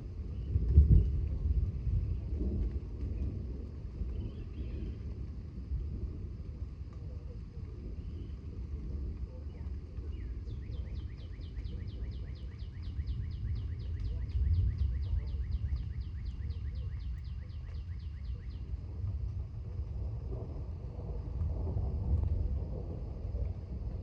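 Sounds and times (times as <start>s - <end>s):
thunder rumbling: 0.0s - 24.0s.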